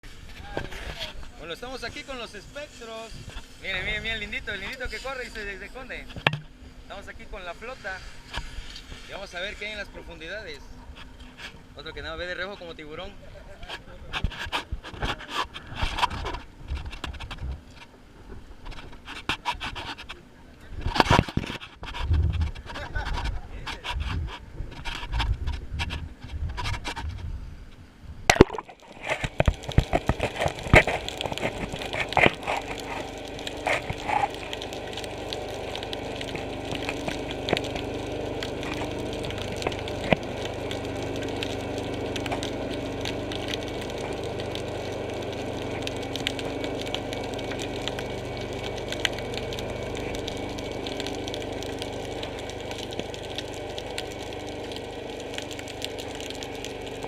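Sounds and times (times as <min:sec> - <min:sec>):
clicks and crackles underwater: 0:00.0 - 0:06.7, 0:07.7 - 0:57.0
steady low hum: 0:00.1 - 0:57.0.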